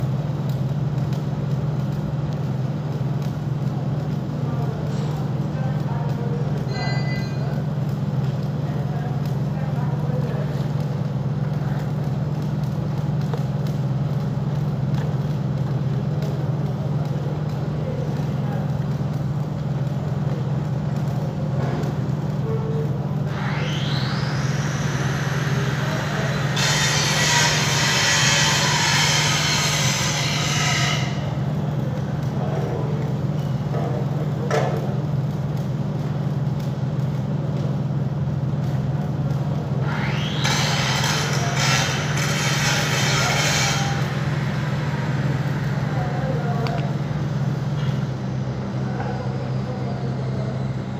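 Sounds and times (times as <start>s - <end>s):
welding arc hiss: 0.0s - 50.5s
welding machine hum: 0.0s - 50.9s.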